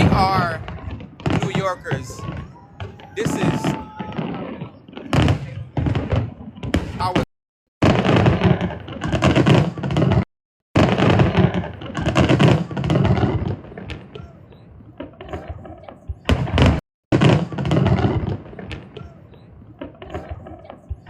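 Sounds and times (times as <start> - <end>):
fireworks booming and crackling: 0.0 - 21.0.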